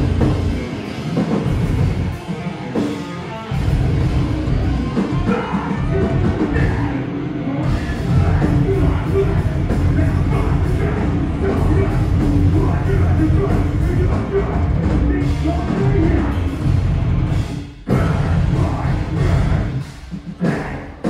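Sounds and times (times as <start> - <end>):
metal band playing live: 0.0 - 21.0.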